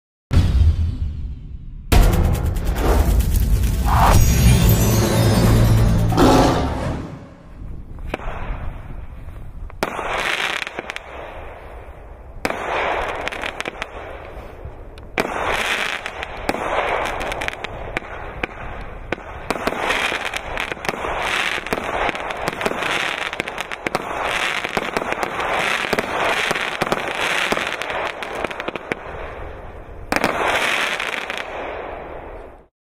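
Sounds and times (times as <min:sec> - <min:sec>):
firework crackling: 0:02.0 - 0:05.8, 0:08.1 - 0:32.1.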